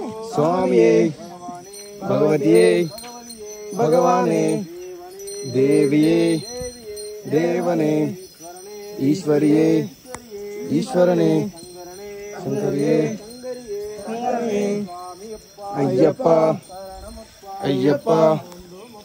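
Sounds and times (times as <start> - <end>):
jingling bells: 0.0 - 19.0
person singing: 0.0 - 19.0.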